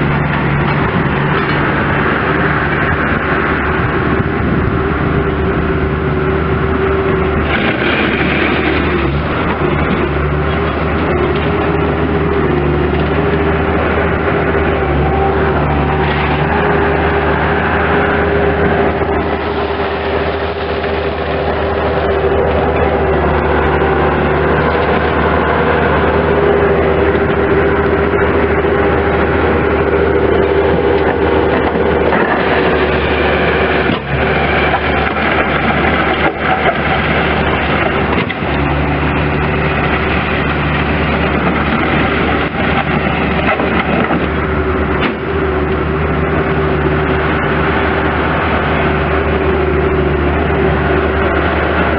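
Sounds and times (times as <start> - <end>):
diesel engine running: 0.0 - 51.9
steady whine: 0.0 - 51.9.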